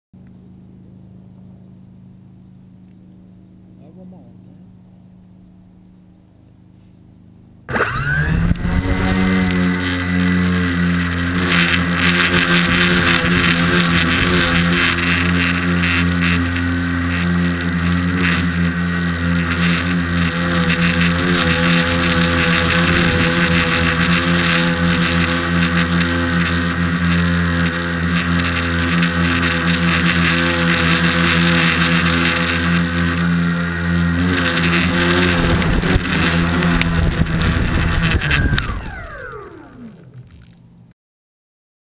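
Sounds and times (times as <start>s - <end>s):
buzzing rattle: 0.2s - 40.9s
drone motors buzzing: 0.2s - 40.9s.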